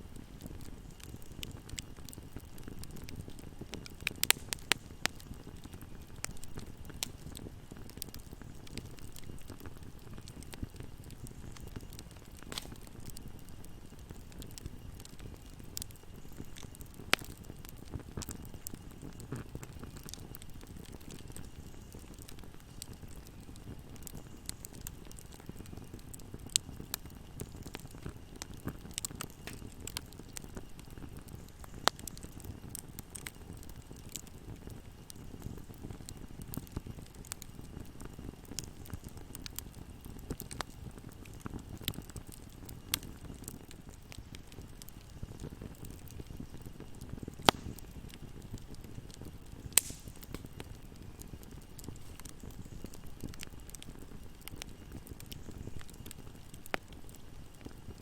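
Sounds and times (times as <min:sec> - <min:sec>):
fire crackling: 0:00.0 - 0:58.0
fire flames rumbling: 0:00.0 - 0:58.0
sharp pops from fire: 0:00.1 - 0:58.0.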